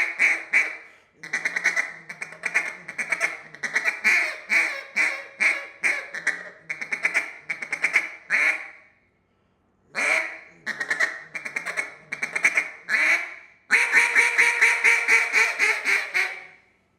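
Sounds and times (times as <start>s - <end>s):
duck call quacks: 0.0s - 8.8s, 9.9s - 16.6s.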